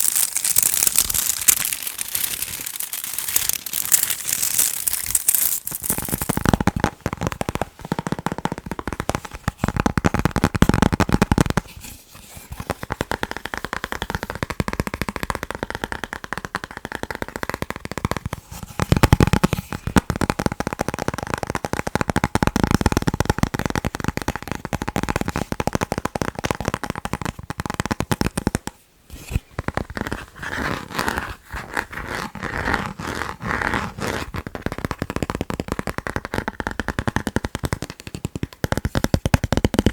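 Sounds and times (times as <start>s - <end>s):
fast tapping on chocolate packaging: 0.0s - 11.8s, 12.6s - 28.8s, 34.2s - 39.9s.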